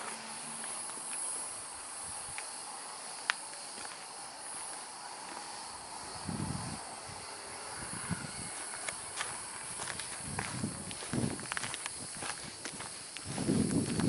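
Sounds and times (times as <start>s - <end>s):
footsteps on dirt path: 0.0s - 6.8s, 7.8s - 14.0s
insect chirring: 0.0s - 14.0s.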